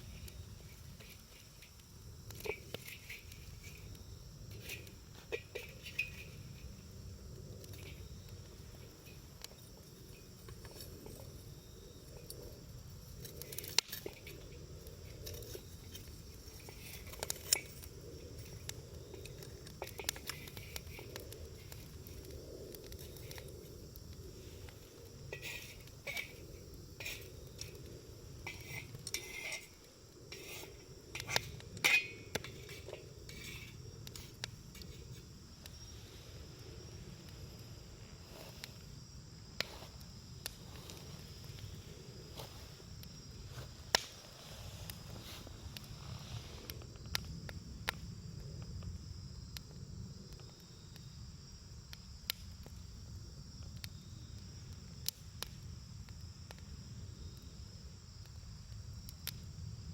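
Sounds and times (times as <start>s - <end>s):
campfire crackling and popping: 0.0s - 59.9s
crickets chirring: 0.0s - 59.9s.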